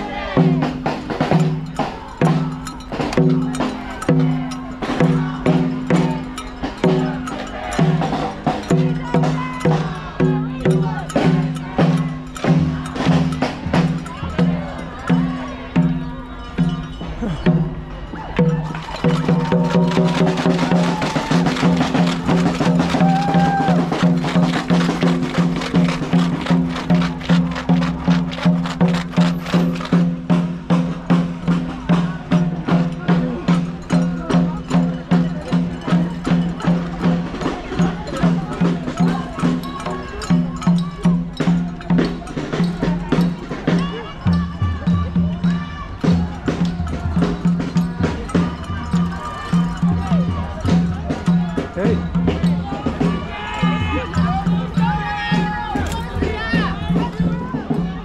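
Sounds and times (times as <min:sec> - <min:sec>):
drum beaten in steady rhythm: 0:00.0 - 0:58.0.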